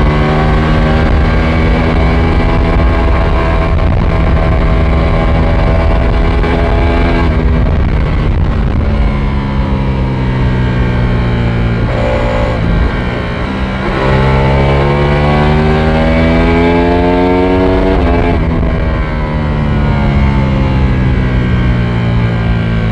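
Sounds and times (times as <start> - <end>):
motorcycle engine accelerating: 0.0 - 22.9
wind rush: 0.5 - 22.9.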